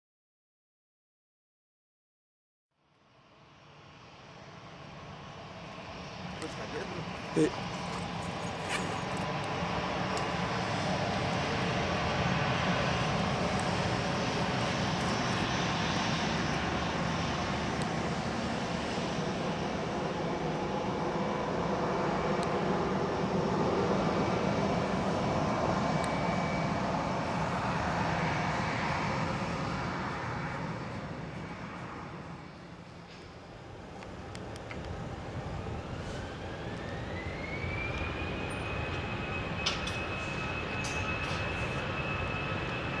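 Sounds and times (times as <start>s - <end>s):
jet engines roaring: 3.4s - 43.0s.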